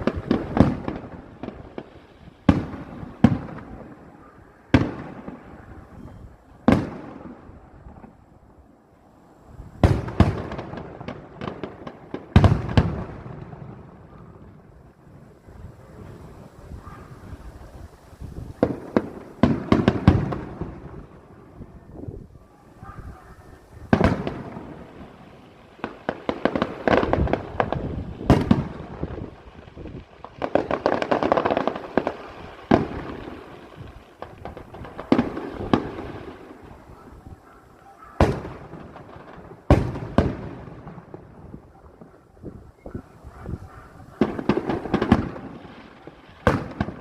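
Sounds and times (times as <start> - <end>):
fireworks bursting with loud bangs: 0.0 - 8.8, 9.6 - 47.0
fireworks crackling: 0.0 - 47.0.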